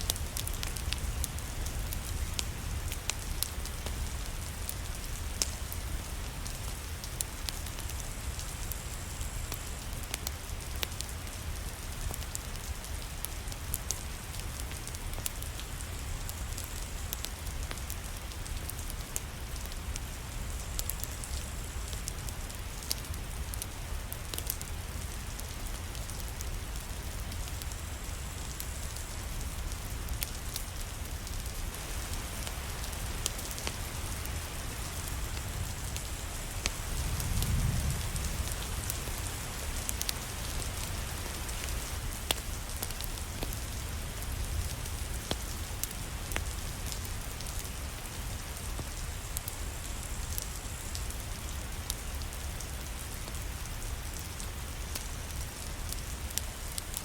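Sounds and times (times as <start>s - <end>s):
sharp crackles and ticks: 0.0s - 57.0s
steady rain falling: 0.0s - 57.0s.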